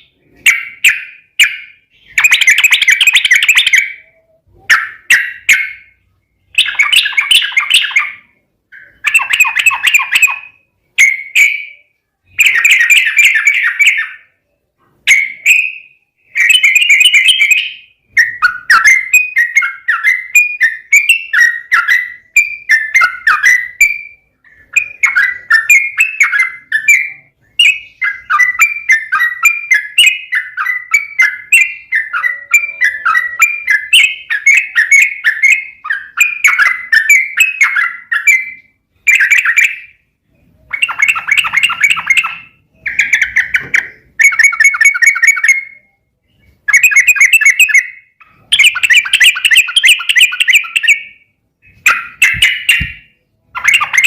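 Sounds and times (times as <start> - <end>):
bulbul singing warbled notes: 0.0 - 54.0.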